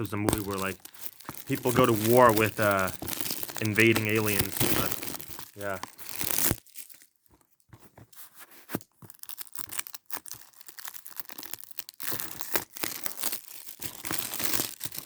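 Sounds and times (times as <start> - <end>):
plastic packaging crinkling and tearing: 0.0 - 15.0.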